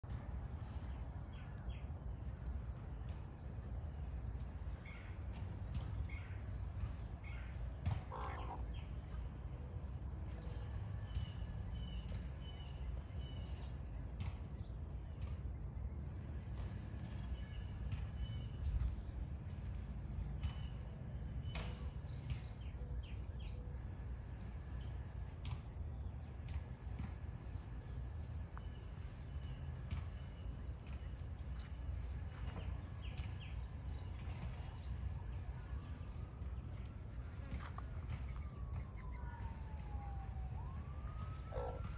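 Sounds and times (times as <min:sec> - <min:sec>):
birds chirping: 0:00.0 - 0:41.9
steady low rumble: 0:00.0 - 0:41.9.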